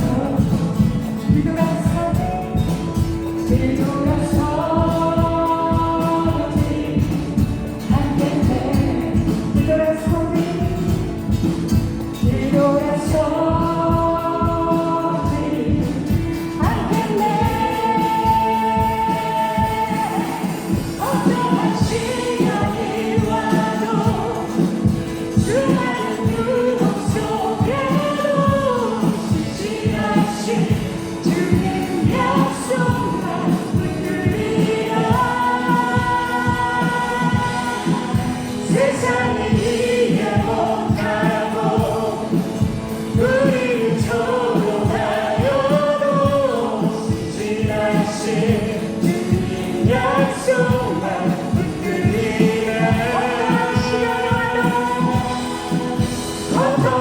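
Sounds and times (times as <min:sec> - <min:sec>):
group singing worship song: 0:00.0 - 0:57.0
instrumental accompaniment with beat: 0:00.0 - 0:57.0.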